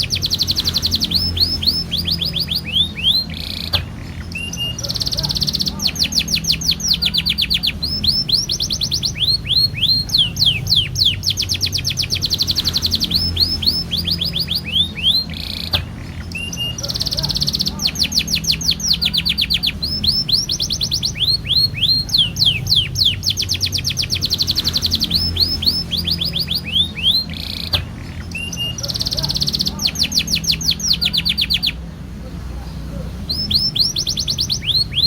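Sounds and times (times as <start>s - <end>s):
canary singing trills: 0.0s - 35.0s.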